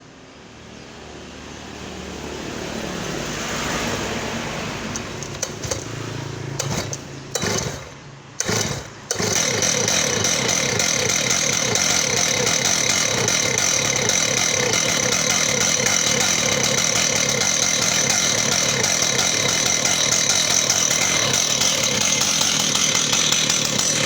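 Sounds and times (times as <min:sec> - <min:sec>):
chainsaw starting and running: 0:03.4 - 0:24.0.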